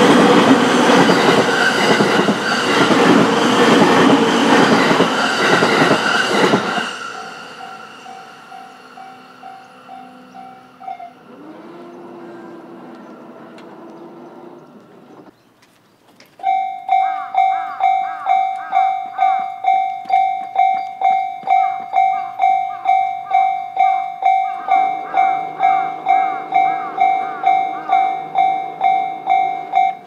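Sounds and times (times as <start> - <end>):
level-crossing warning bell: 0.0 - 14.5, 16.4 - 30.0.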